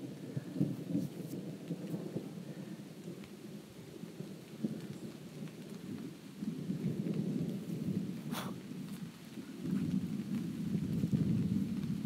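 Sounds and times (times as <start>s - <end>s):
rain falling: 0.0s - 12.0s
thunder rumbling: 0.0s - 12.0s.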